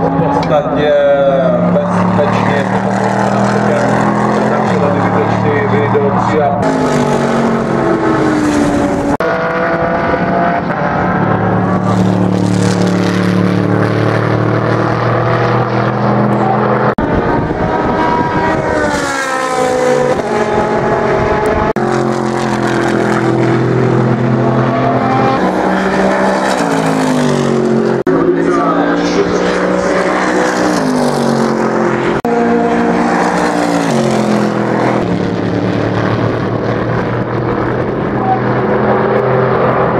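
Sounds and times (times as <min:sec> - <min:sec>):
racing car engine at high revs: 0:00.0 - 0:39.9.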